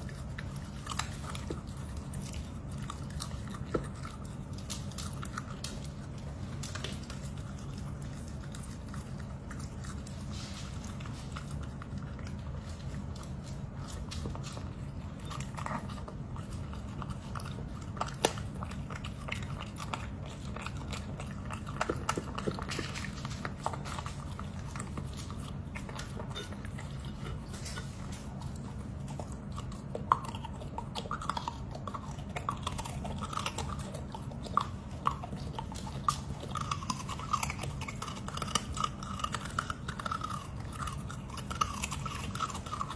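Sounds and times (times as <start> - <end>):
dog crunching vegetables: 0.0 - 42.9
steady low hum: 0.0 - 42.9.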